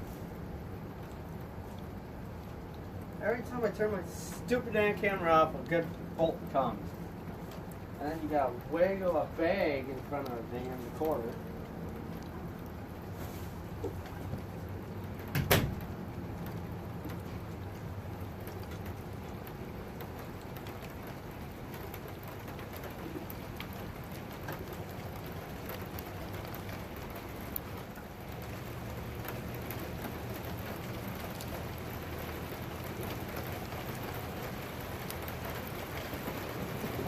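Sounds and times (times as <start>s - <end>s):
steady rain falling: 0.0s - 37.0s
raindrop taps: 0.8s - 37.0s.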